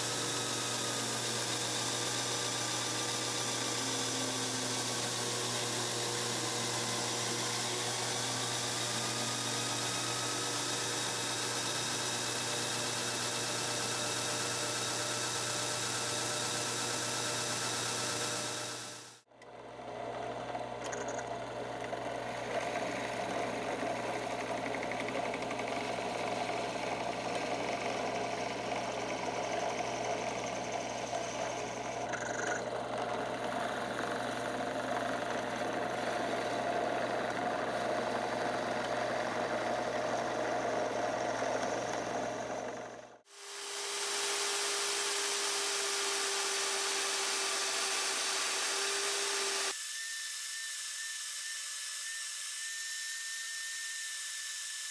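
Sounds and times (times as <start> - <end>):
band saw whine: 0.0 - 19.3, 20.1 - 54.9
drill press motor hum: 0.0 - 54.9.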